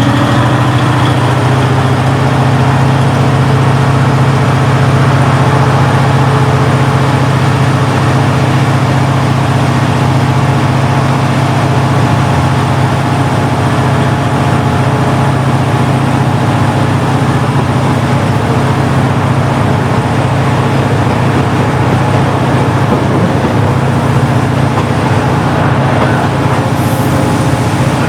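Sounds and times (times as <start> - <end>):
diesel railcar engine droning: 0.0 - 28.0.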